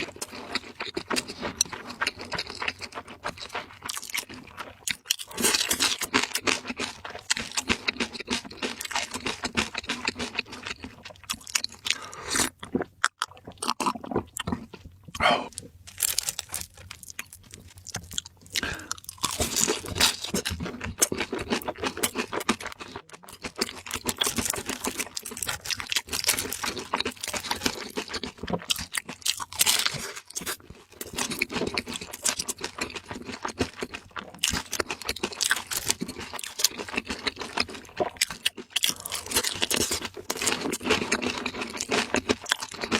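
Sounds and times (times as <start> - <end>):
chewing crispy fried food: 0.0 - 42.9.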